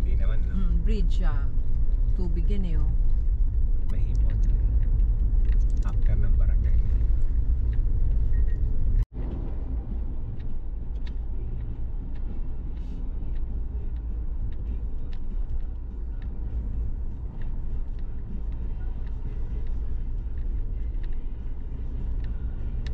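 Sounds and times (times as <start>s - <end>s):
car engine and road rumble: 0.0s - 22.9s.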